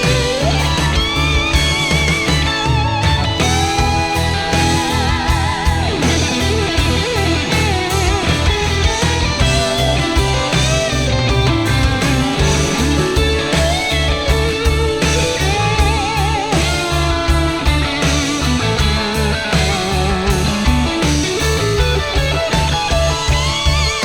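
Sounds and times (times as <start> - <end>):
electric guitar lead line: 0.0 - 24.0
steady bass beat: 0.0 - 24.0.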